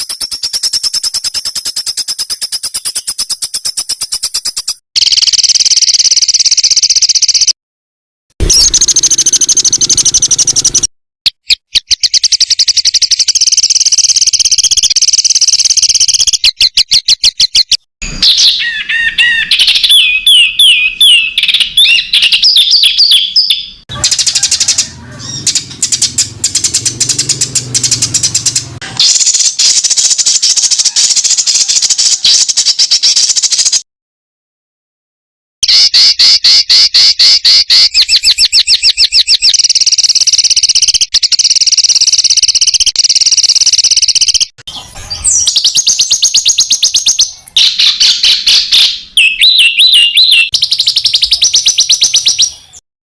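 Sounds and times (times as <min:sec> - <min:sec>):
caged songbirds trilling: 0:00.0 - 0:07.6, 0:08.4 - 0:33.8, 0:35.7 - 0:52.8.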